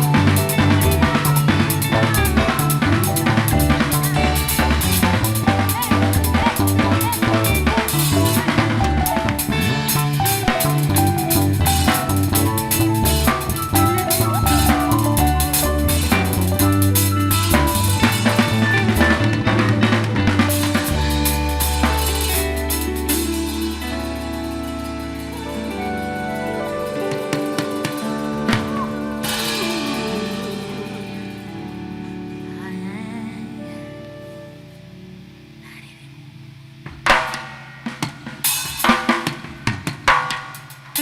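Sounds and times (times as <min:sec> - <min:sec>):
drum kit pattern: 0:00.0 - 0:32.8, 0:36.9 - 0:41.0
live band music: 0:00.0 - 0:33.1
sustained keyboard chords: 0:00.0 - 0:37.0.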